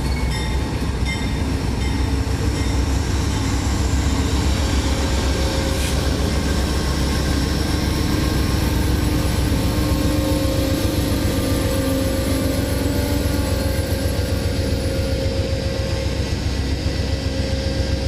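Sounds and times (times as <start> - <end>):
locomotive hum: 0.0 - 18.0
passenger train rolling past: 0.0 - 18.0.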